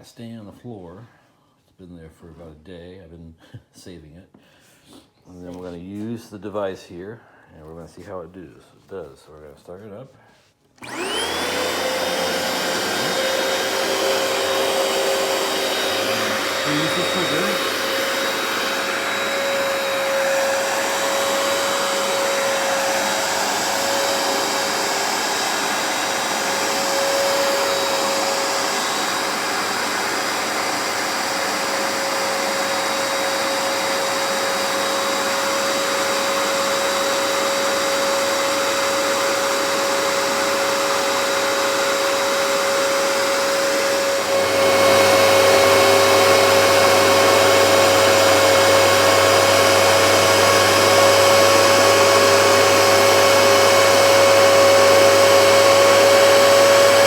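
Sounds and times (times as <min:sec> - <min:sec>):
carpet cleaner motor whine: 0:10.8 - 0:57.0.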